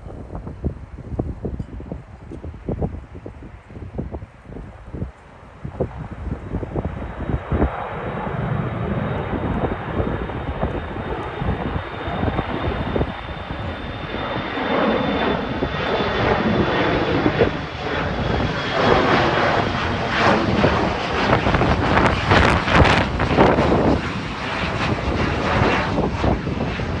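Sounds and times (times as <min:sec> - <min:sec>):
jet engines roaring at takeoff: 0:00.4 - 0:27.0.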